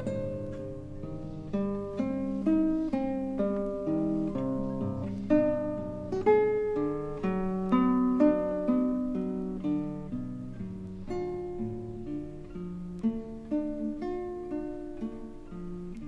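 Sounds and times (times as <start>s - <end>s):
acoustic guitar plucked melody: 0.0s - 16.0s.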